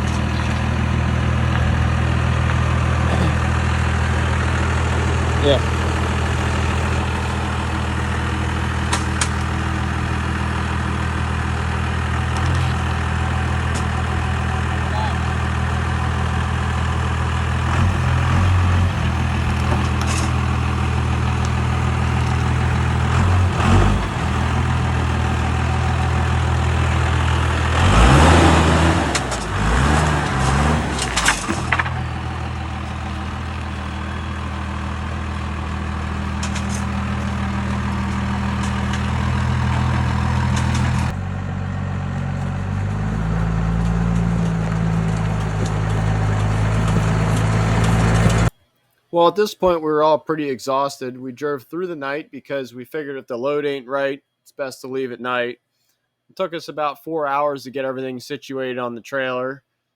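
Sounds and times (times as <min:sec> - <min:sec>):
vehicle engine idling: 0:00.0 - 0:48.6.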